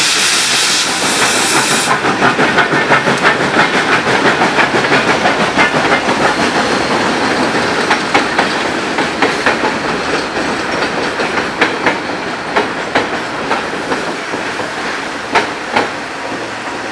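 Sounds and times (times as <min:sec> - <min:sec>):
train rolling rumble on bridge: 0:00.0 - 0:16.9
train wheels clacking over rail joints: 0:00.0 - 0:16.9.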